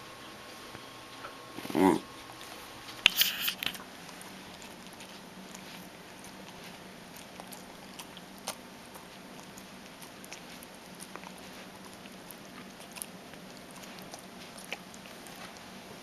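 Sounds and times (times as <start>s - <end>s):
dog chewing food: 1.6s - 16.0s.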